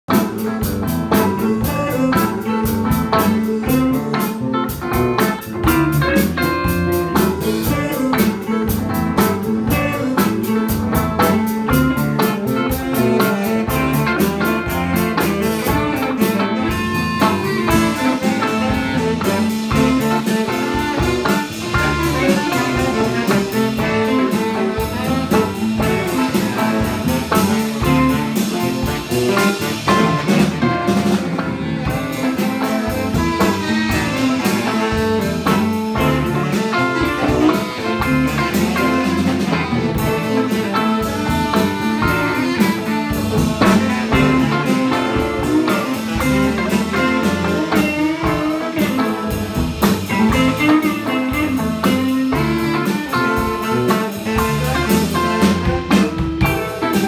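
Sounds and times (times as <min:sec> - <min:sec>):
live band music: 0:00.0 - 0:57.0
baritone saxophone playing: 0:00.1 - 0:57.0
drum kit cymbals: 0:00.1 - 0:57.0.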